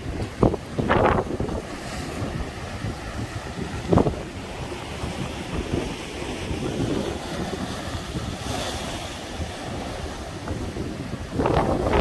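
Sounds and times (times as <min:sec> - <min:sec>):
surf rushing: 0:00.0 - 0:12.0
wind buffeting the microphone: 0:00.0 - 0:12.0.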